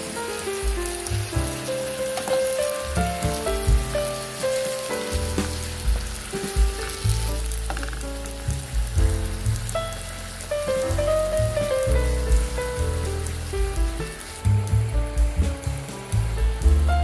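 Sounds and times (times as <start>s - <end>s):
background music with bass: 0.0s - 17.0s
chicken sizzling in hot oil: 0.0s - 17.0s.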